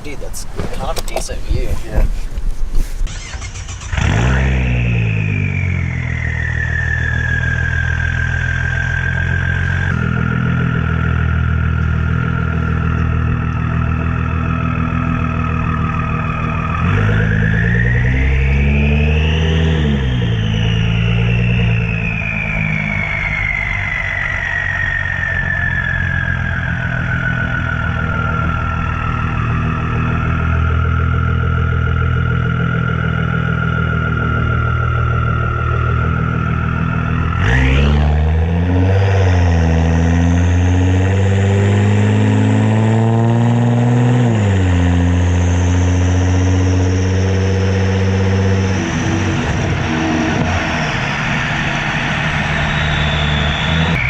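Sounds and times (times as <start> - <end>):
car engine and exhaust: 0.0 - 54.0
engine whine: 0.0 - 54.0.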